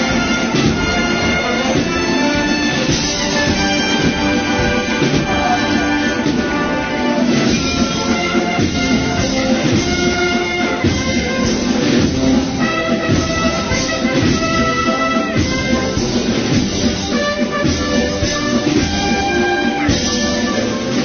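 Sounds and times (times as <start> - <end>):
brass band playing a march: 0.0 - 21.0
steady drumming: 0.0 - 21.0.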